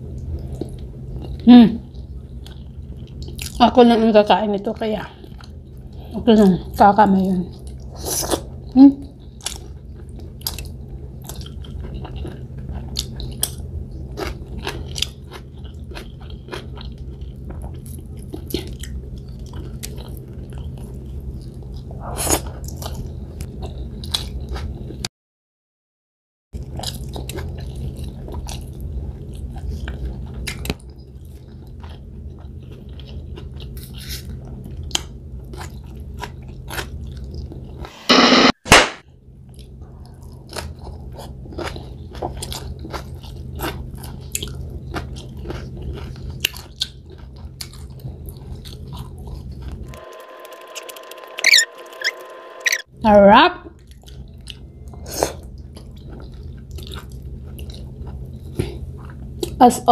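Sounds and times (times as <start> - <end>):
low steady hum: 0.0 - 25.1, 26.6 - 59.9
person chewing and crunching: 0.4 - 3.6, 7.5 - 25.0, 26.6 - 37.9, 39.5 - 52.8, 53.8 - 59.6.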